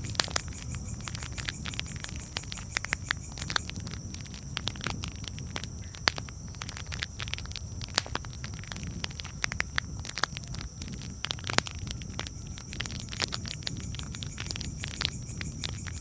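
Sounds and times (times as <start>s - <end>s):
low rumble of flames: 0.0s - 16.0s
campfire pops and snaps: 0.1s - 14.7s.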